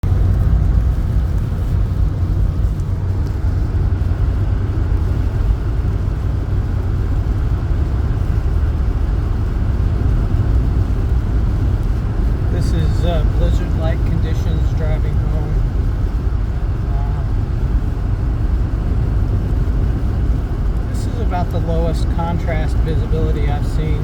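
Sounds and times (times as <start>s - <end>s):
car driving on snowy road: 0.0s - 24.0s.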